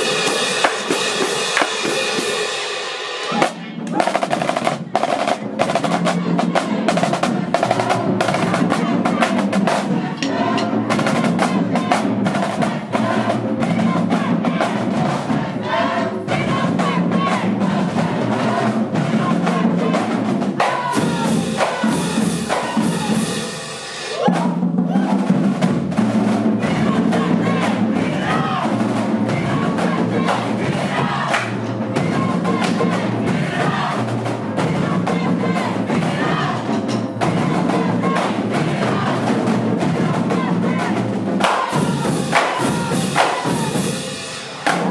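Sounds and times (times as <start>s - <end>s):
bass drums: 0.0s - 2.4s, 3.2s - 15.7s, 16.3s - 23.5s, 24.1s - 44.9s
marching band playing: 0.0s - 44.9s
rapid snare drum strokes: 0.0s - 44.9s.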